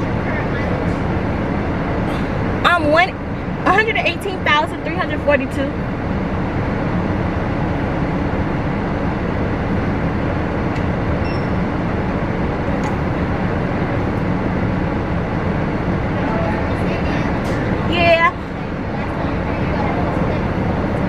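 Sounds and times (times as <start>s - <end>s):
machinery running rumble: 0.0s - 21.0s.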